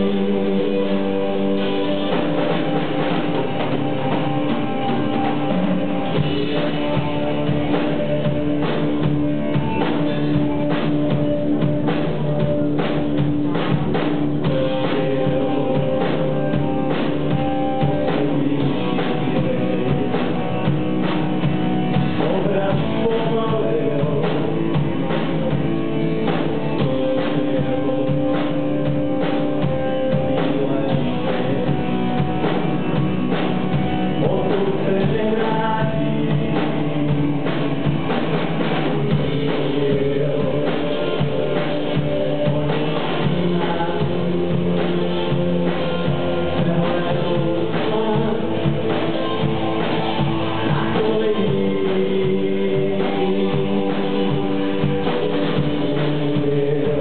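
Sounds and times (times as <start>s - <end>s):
bass guitar: 0.0s - 57.0s
electric guitar: 0.0s - 57.0s.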